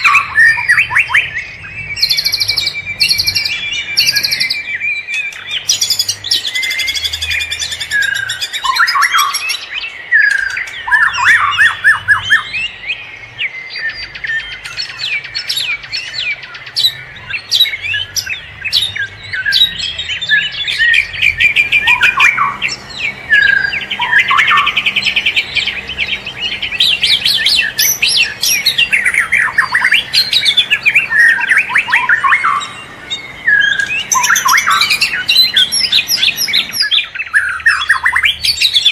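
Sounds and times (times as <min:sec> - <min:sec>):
forest birds chirping and trilling: 0:00.0 - 0:38.9.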